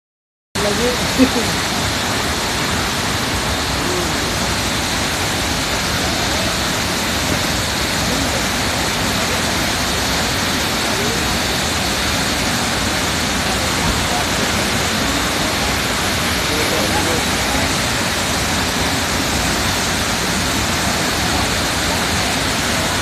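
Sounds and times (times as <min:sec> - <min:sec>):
waterfall pouring: 0:00.6 - 0:23.0.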